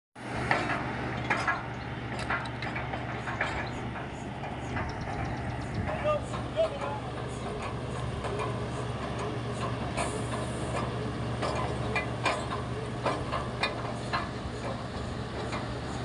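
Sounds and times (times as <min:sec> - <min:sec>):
drilling rig engine humming: 0:00.2 - 0:16.0.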